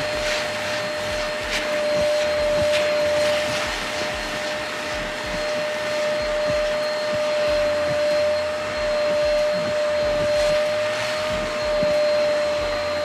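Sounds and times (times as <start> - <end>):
spot cleaner motor whining: 0.0 - 13.0.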